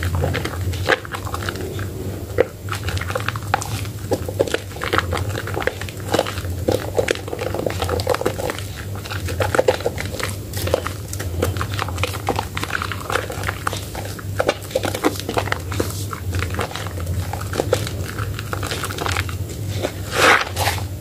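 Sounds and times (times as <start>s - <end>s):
foam crackling and popping: 0.0s - 21.0s
wet squelching of soap lather: 0.0s - 21.0s.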